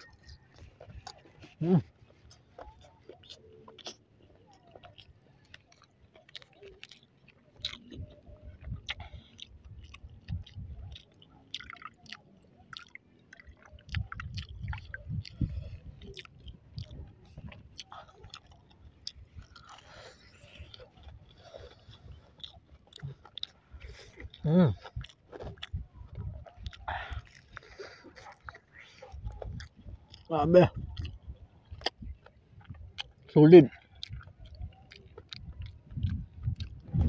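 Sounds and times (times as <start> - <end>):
person chewing crispy food: 0.0 - 37.0.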